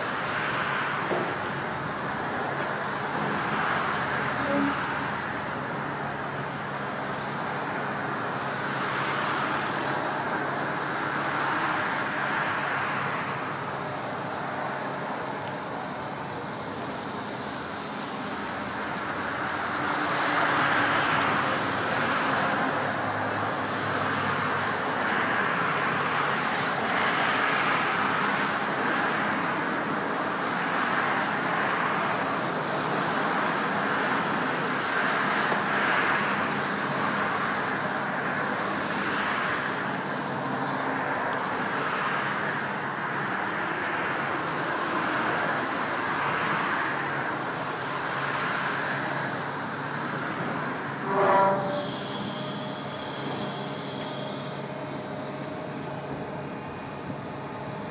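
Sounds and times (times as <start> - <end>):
excavator diesel engine hum: 0.0 - 57.9
road traffic: 0.0 - 57.9.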